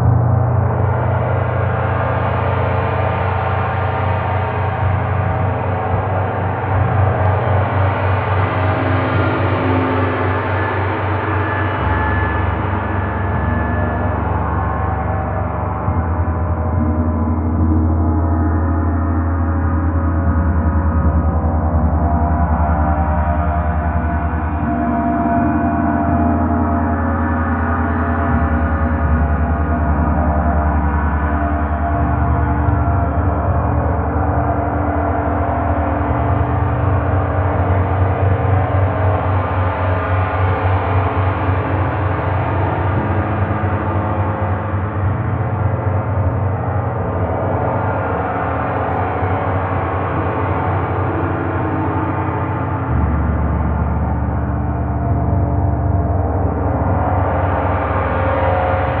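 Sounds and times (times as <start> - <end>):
large gong wash drone: 0.0 - 59.0.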